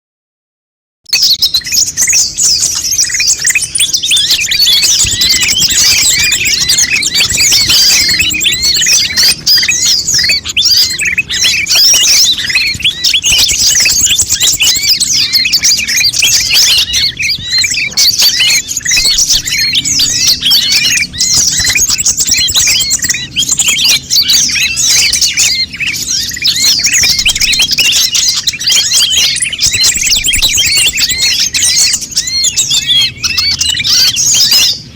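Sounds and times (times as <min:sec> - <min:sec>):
birds chattering: 0:01.1 - 0:34.9.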